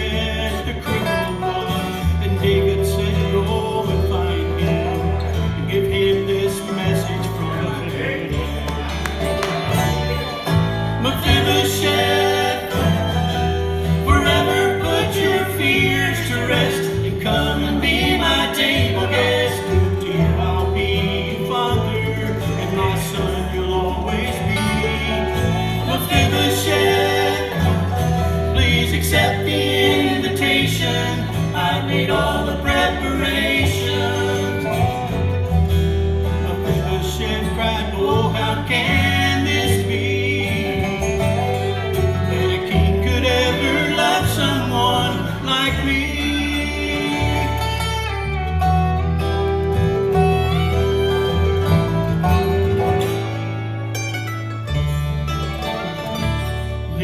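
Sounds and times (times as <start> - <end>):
acoustic guitar: 0.0 - 57.0
bass line: 0.0 - 57.0
rapid banjo picking: 0.0 - 57.0.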